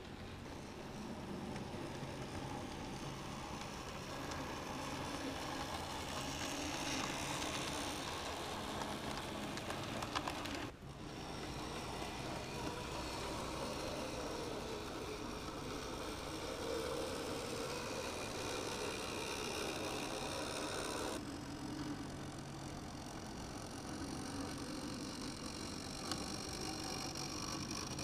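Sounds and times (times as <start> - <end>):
model train motor humming: 0.0 - 28.0
wheels rolling over rails: 0.0 - 28.0.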